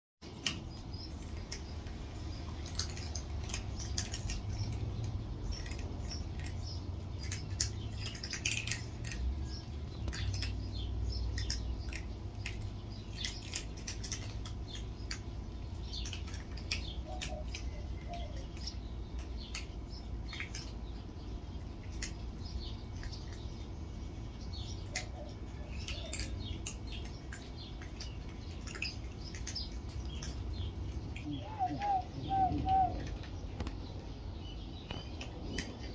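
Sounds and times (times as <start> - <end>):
cats crunching dry kibble: 0.2 - 35.9.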